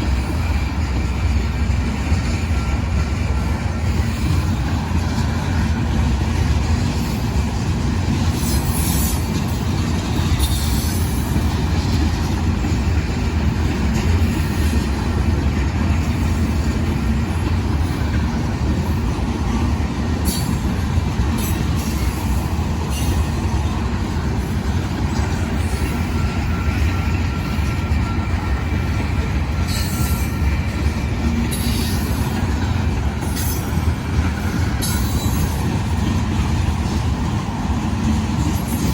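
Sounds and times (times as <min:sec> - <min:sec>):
wheels squealing on rails: 0:00.0 - 0:38.9.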